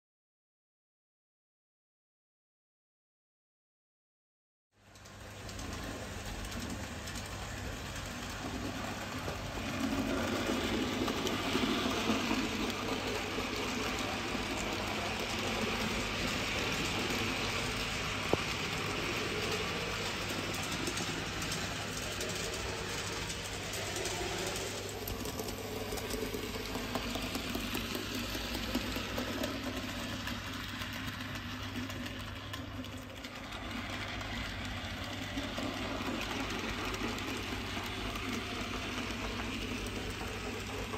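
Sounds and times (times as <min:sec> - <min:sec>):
wheels rumbling on rails: 0:04.8 - 0:40.9
model train motor whir: 0:05.0 - 0:40.9.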